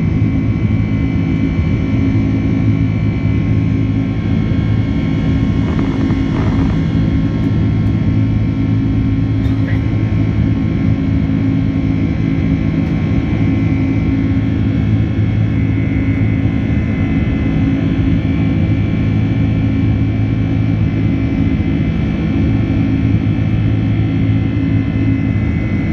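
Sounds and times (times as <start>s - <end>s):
airplane cabin engine hum: 0.0s - 25.9s.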